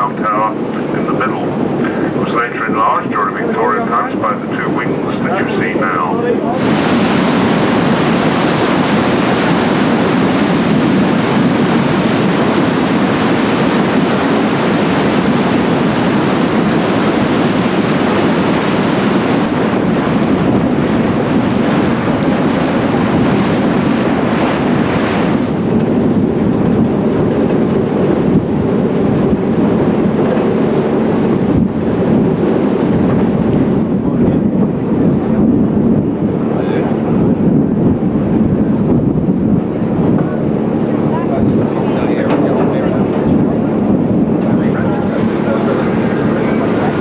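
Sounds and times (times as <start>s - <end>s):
water rushing past paddle wheel: 0.0s - 47.0s
wind on microphone: 0.0s - 47.0s.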